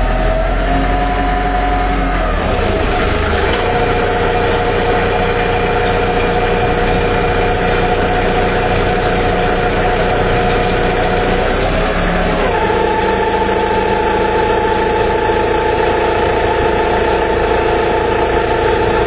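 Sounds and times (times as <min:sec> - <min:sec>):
forklift engine whine and rumble: 0:00.0 - 0:19.0.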